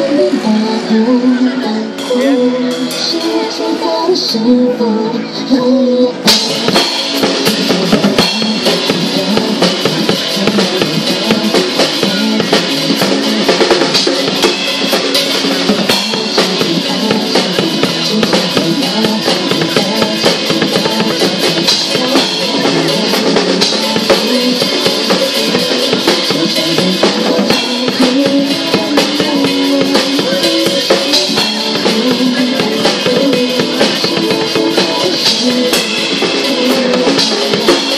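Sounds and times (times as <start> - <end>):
pop backing track: 0.0 - 37.9
drum kit beat: 6.2 - 37.9.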